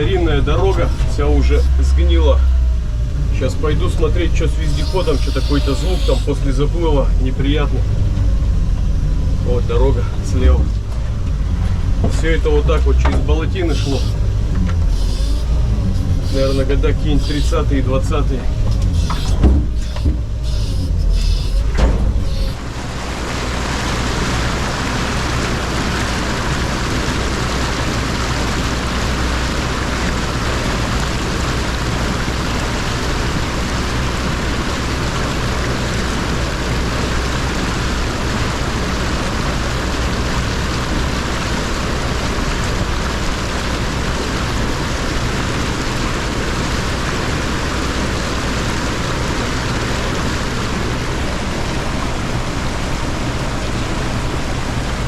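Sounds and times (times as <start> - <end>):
all-terrain vehicle engine: 0.0 - 55.0.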